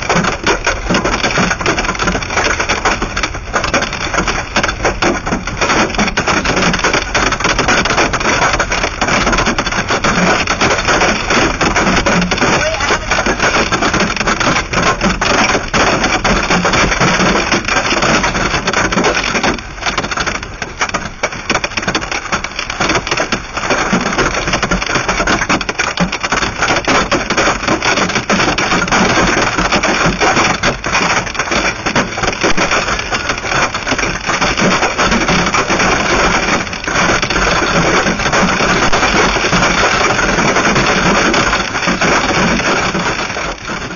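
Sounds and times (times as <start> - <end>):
hail pelting car roof: 0.0 - 43.9.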